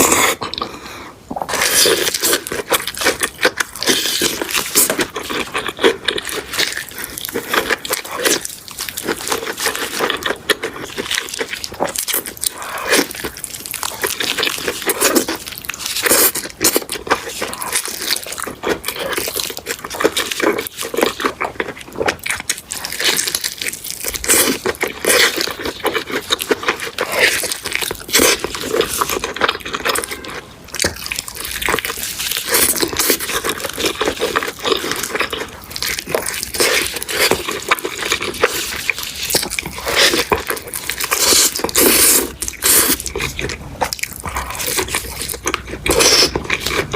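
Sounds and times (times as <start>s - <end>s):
person biting and chewing: 0.0s - 46.9s.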